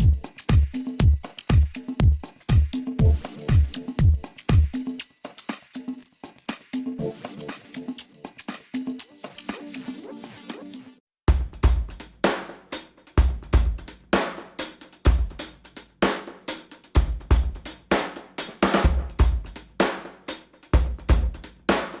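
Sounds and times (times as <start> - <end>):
drum kit beat: 0.0 - 10.6, 11.3 - 22.0.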